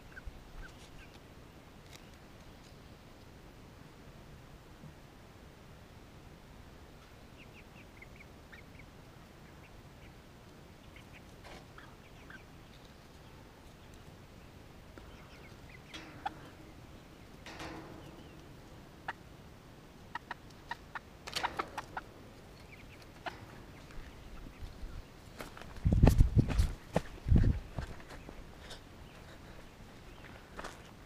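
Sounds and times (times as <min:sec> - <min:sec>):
young chickens peeping: 0:00.0 - 0:02.6, 0:06.9 - 0:30.9.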